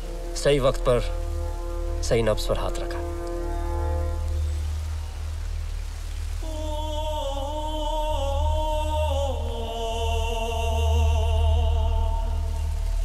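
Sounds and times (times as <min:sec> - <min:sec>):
deep low drone: 0:00.0 - 0:13.0
wavering film score melody: 0:00.0 - 0:13.0.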